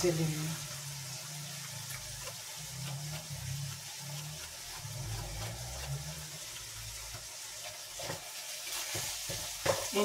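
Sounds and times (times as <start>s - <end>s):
meat sizzling in a frying pan: 0.0s - 10.0s.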